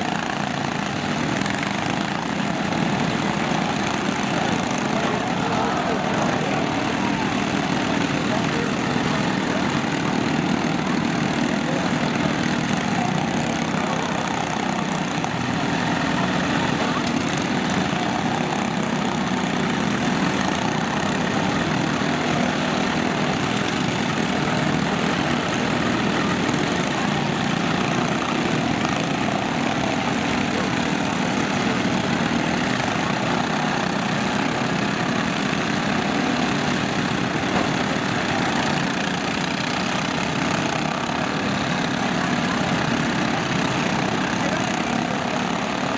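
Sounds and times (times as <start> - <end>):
lawn tractor engines droning: 0.0 - 45.9.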